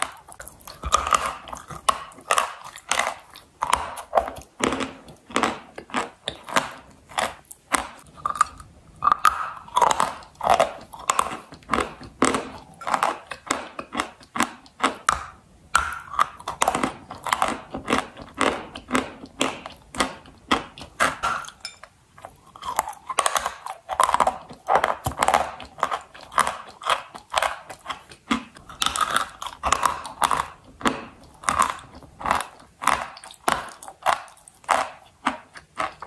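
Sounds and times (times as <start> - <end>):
crunchy chewing of chalk: 0.0 - 36.0.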